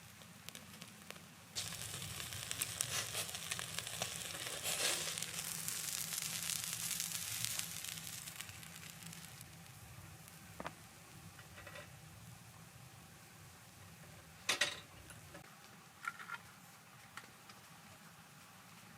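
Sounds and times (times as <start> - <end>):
food frying in hot oil: 0.0 - 15.5.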